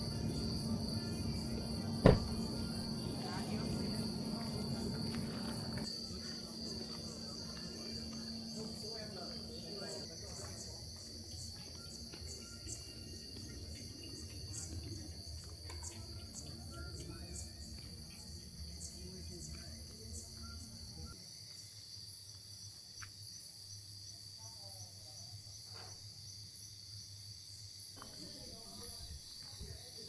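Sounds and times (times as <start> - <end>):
insects ticking: 0.0 - 30.0
insects trilling: 0.0 - 30.0.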